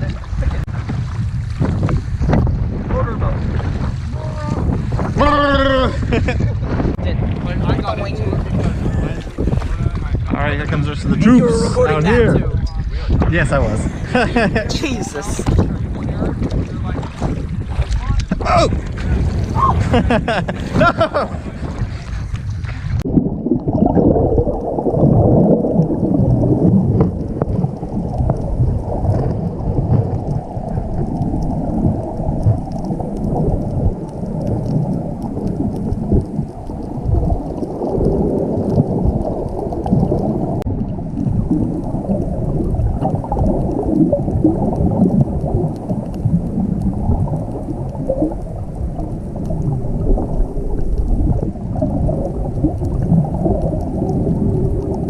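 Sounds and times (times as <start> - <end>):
underwater rumbling and sloshing: 0.0 - 55.0
water gurgles: 0.0 - 55.0.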